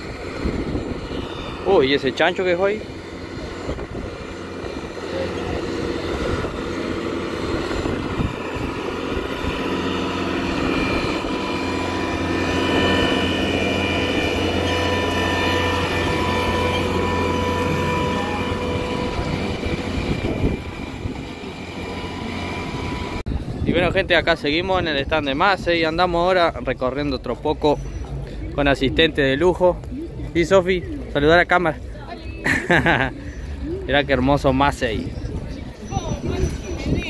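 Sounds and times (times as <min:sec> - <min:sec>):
large engine droning: 0:00.0 - 0:37.0.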